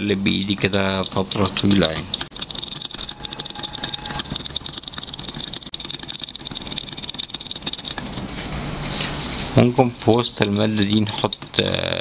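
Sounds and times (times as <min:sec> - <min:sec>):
stick scraping and ticking in cup: 0:00.0 - 0:08.3, 0:09.7 - 0:12.0.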